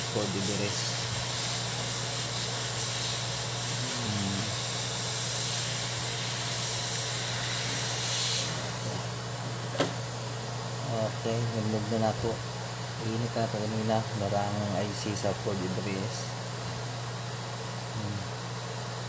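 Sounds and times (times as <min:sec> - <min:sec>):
desoldering tool humming and hissing: 0:00.0 - 0:19.0.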